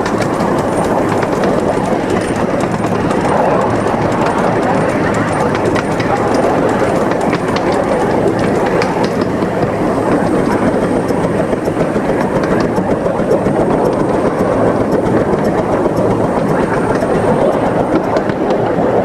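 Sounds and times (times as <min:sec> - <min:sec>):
miniature train rolling rumble: 0:00.0 - 0:19.0
wheels clicking over rail joints: 0:00.0 - 0:19.0.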